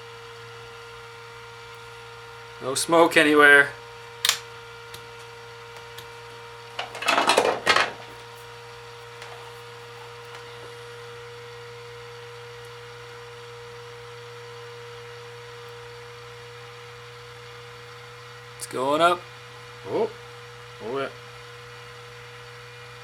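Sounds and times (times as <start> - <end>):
steady electrical hum: 0.0 - 22.2.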